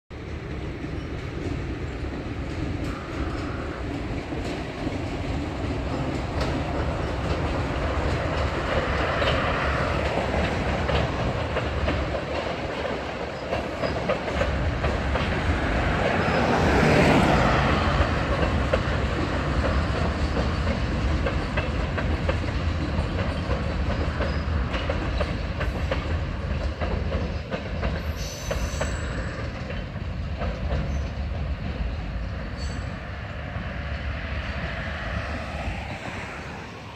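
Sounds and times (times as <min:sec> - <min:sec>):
freight train rumbling on bridge: 0:00.1 - 0:36.9
wheels clacking over rail joints: 0:00.2 - 0:36.9.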